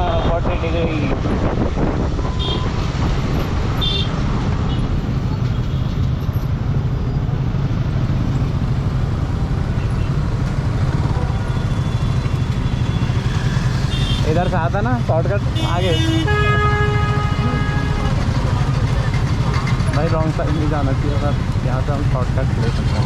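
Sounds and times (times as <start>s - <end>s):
rushing wind: 0.0s - 20.3s
motorcycle engine: 3.6s - 23.0s.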